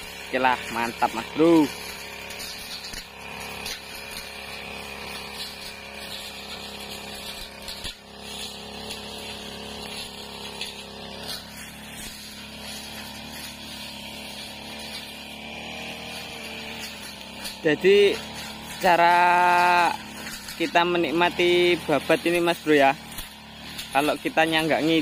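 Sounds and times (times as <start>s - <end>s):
brush cutter running: 0.0s - 25.0s.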